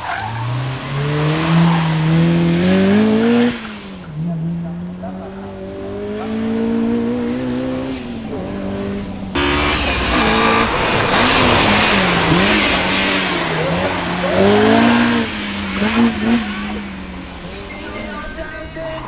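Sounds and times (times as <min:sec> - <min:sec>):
car engine revving hard: 0:00.0 - 0:18.6.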